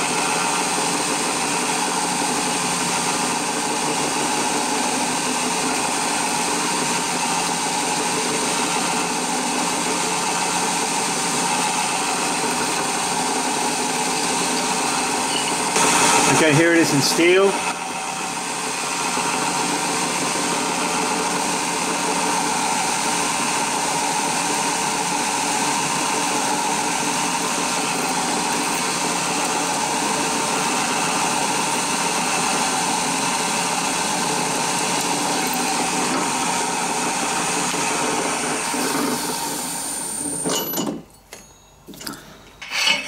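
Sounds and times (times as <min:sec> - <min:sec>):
drill press boring into steel: 0:00.0 - 0:43.0.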